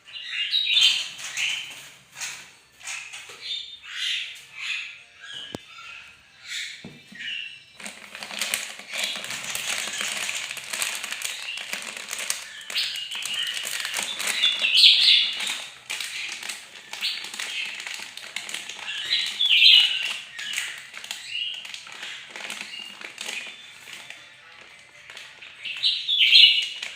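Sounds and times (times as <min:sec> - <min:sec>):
bird chattering and singing: 0:00.0 - 0:26.9.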